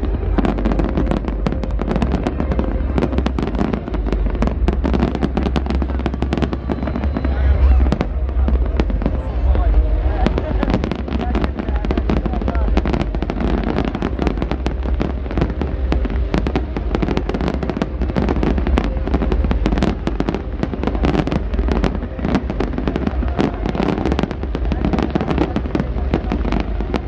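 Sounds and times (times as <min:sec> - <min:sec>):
fireworks bursts and crackling: 0:00.0 - 0:27.0.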